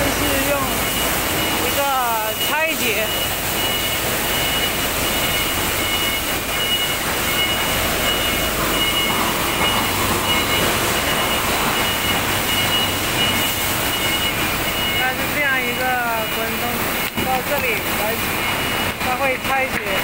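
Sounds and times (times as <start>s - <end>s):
machinery metallic clatter: 0.0s - 20.0s.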